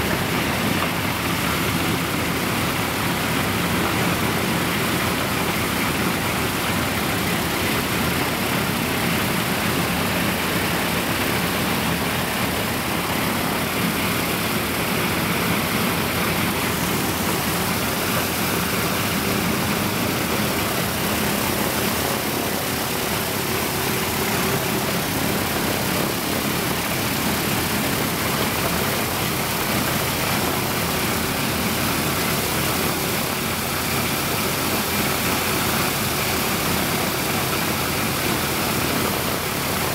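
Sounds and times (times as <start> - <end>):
radial engine running: 0.0 - 39.9.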